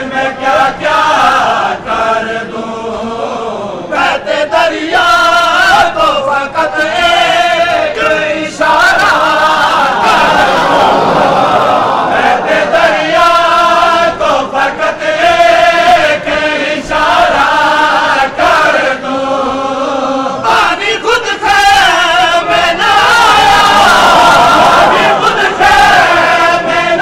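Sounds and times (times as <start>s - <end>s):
crowd of men chanting: 0.0s - 27.0s.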